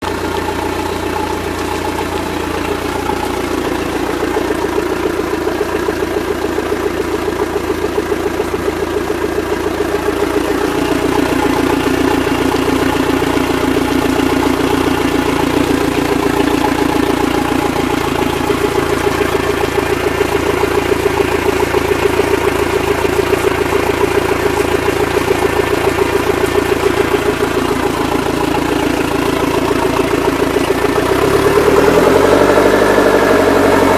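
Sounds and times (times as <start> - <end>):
boat engine idling: 0.0 - 33.9.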